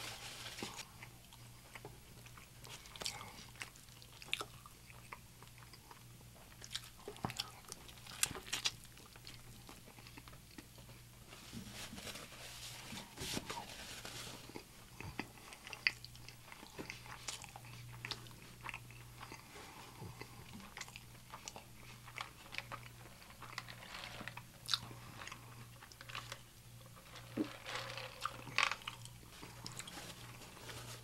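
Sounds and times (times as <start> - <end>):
person chewing food: 0.0 - 11.2, 14.3 - 27.5, 28.1 - 31.0
faint low hum: 0.0 - 31.0.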